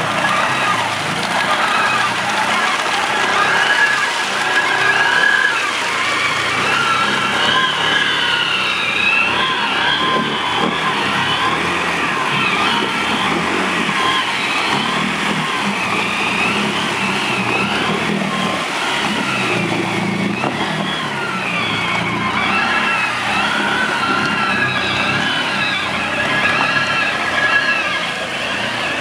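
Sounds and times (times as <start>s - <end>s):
atv engine revving: 0.0s - 29.0s.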